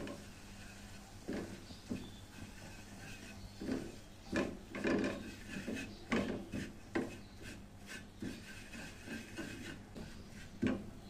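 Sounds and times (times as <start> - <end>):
wooden spatula scraping a pan: 0.0 - 11.0.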